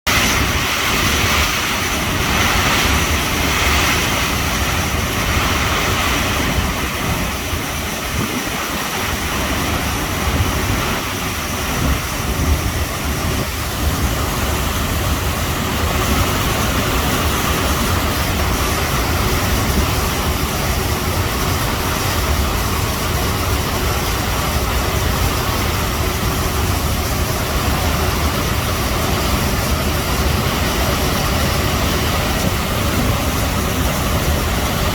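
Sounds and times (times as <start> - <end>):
river water rushing: 0.1 - 34.9
wind buffeting microphone: 0.1 - 34.9.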